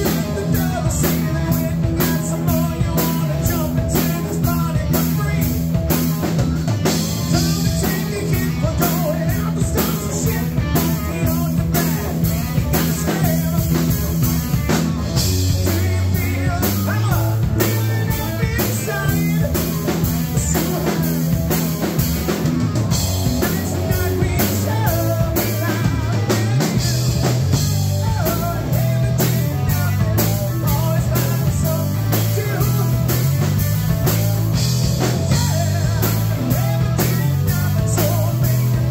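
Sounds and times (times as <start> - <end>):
driving drum beat: 0.0 - 38.9
electric bass line: 0.0 - 38.9
rock band playing: 0.0 - 38.9.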